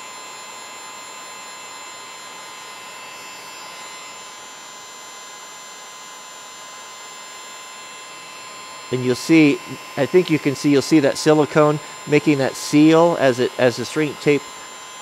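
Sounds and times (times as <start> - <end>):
heat gun blowing with whine: 0.0 - 15.0.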